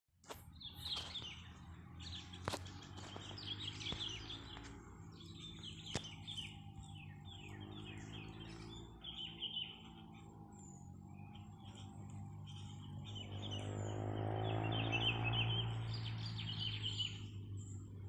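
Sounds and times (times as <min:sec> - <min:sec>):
birds chirping and chattering: 0:00.4 - 0:18.0.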